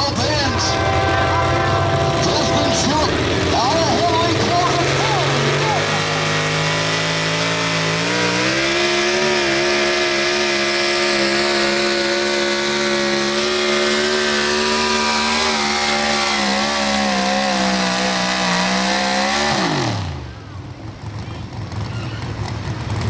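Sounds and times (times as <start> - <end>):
truck engine at high revs: 0.0 - 23.0.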